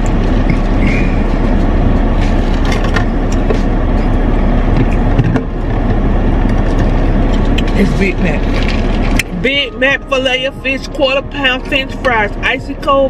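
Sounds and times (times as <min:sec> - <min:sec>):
car running heard inside cabin: 0:00.0 - 0:13.0.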